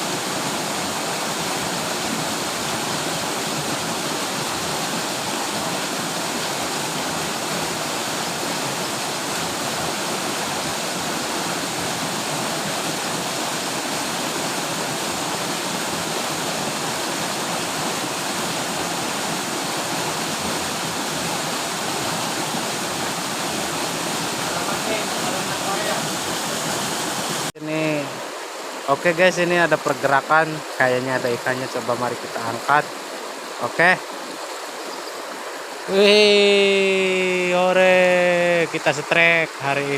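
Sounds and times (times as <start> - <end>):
mountain river rushing: 0.0 - 39.9.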